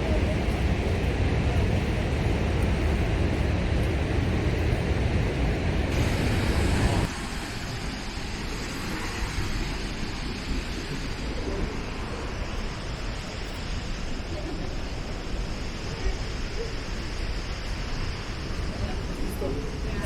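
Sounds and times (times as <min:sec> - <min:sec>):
waterfall rushing rumble: 0:00.0 - 0:20.0.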